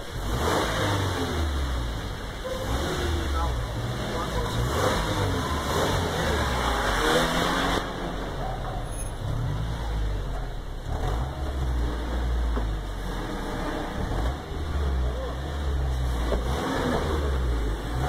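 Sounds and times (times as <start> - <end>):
suv engines rumbling: 0.0 - 18.0.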